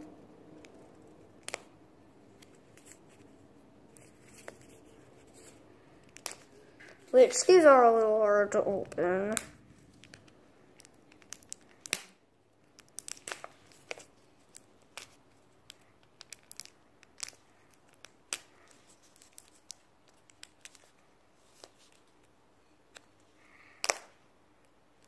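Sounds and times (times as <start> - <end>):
plastic clicks and crinkles: 2.3 - 7.7, 8.5 - 25.0.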